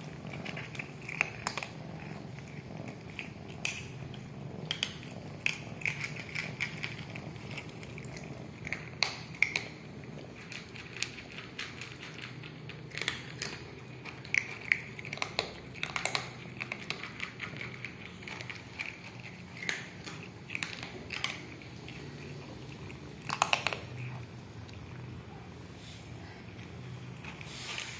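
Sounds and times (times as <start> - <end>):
cats crunching dry kibble: 0.0 - 27.9.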